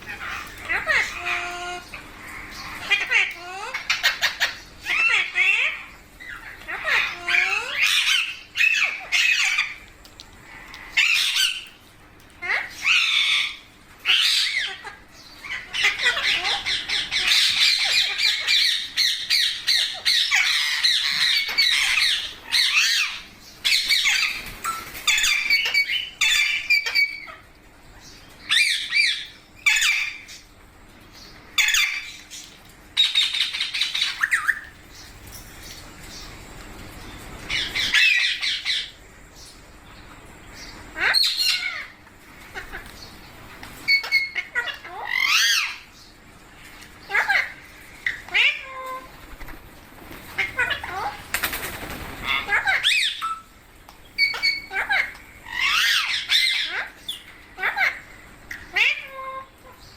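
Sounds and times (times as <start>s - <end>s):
parakeet squawking and chattering: 0.0s - 30.4s, 31.4s - 36.3s, 37.4s - 39.0s, 40.6s - 46.0s, 46.9s - 49.6s, 50.2s - 59.9s.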